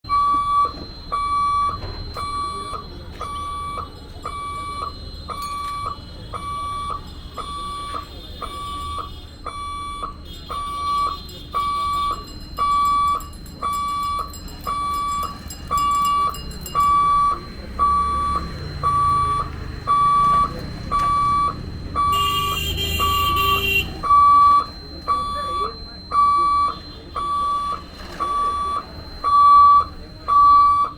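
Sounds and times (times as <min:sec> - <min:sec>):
level crossing buzzer beeping: 0:00.1 - 0:30.9.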